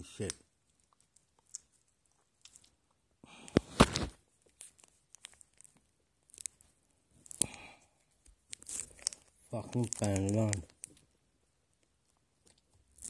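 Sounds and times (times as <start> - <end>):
food wrapper crinkling and tearing: 0.0 - 11.2, 11.8 - 13.0.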